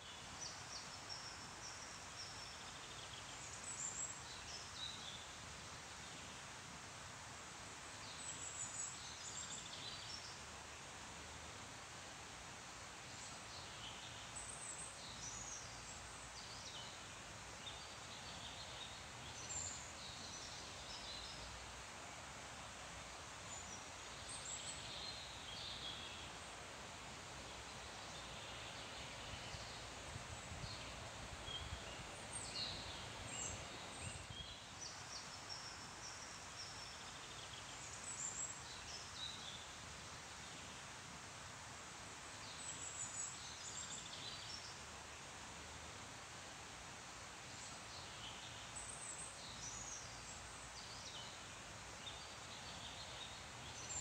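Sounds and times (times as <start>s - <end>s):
rustling of leaves: 0.0s - 54.0s.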